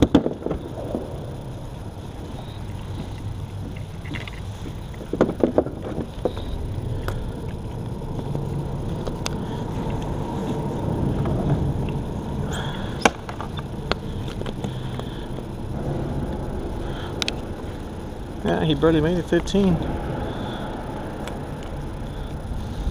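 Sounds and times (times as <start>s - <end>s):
gear clicks and knocks: 0.0s - 22.9s
low rumble of road traffic: 0.0s - 22.9s.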